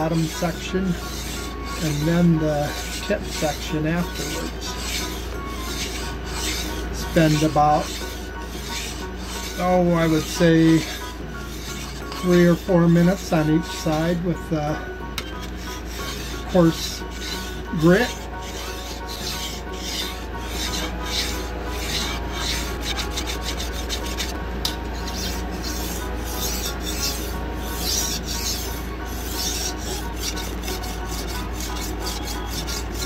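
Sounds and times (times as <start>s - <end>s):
knife scraping on sharpening stone: 0.9s - 9.8s, 15.2s - 33.0s.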